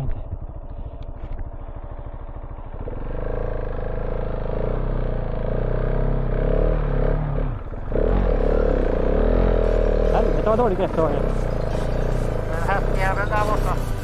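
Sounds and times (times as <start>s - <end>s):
motorcycle engine pulling hard: 0.0s - 14.0s.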